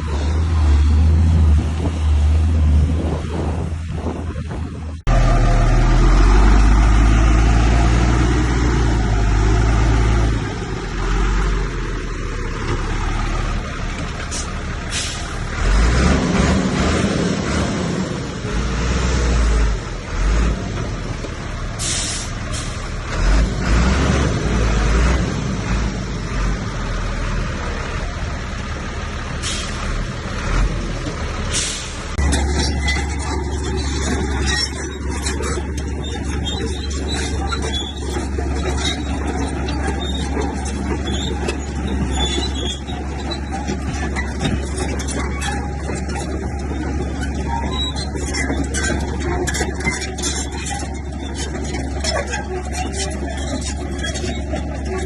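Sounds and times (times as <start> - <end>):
heavy machinery diesel engines rumbling: 0.0 - 55.0.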